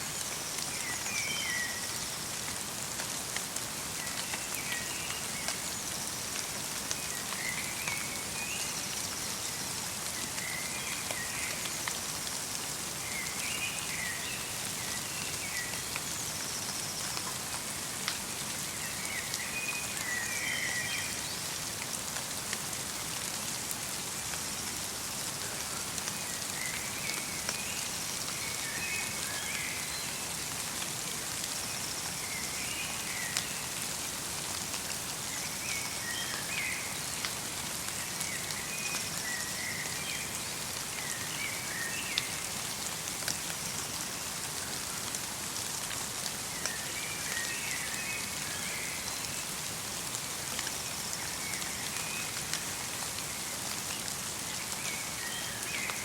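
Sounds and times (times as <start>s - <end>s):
light rain and snow pattering: 0.0s - 56.0s.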